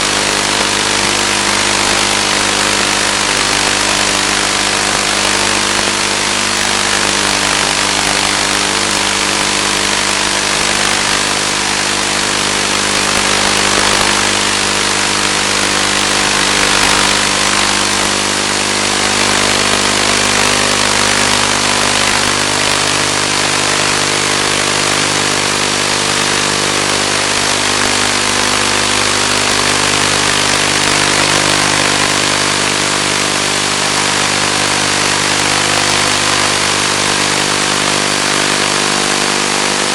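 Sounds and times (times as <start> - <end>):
electric motor and propeller drone: 0.0 - 39.9.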